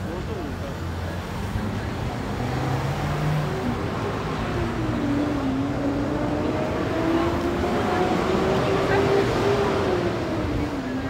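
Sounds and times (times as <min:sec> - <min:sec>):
steady traffic hum: 0:00.0 - 0:11.0.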